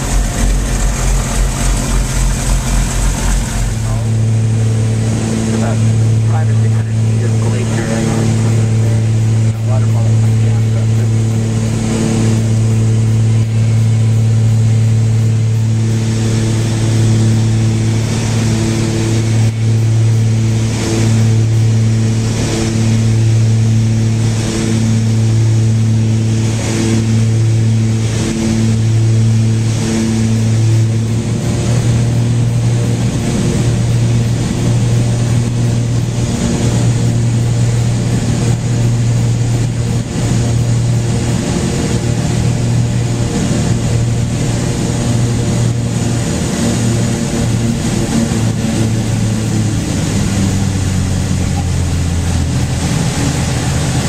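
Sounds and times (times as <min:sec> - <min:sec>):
small aircraft engine droning: 0:00.0 - 0:54.0.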